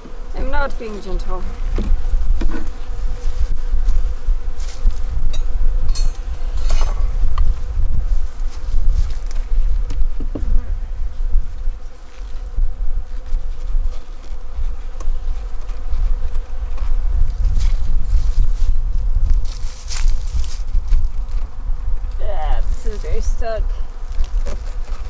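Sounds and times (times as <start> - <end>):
hive frames knocking and scraping: 0.0 - 25.0
honeybees buzzing: 0.0 - 25.0.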